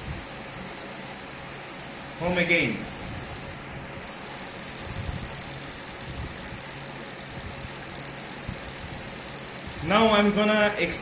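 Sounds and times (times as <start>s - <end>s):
servo motors running: 0.0s - 11.0s.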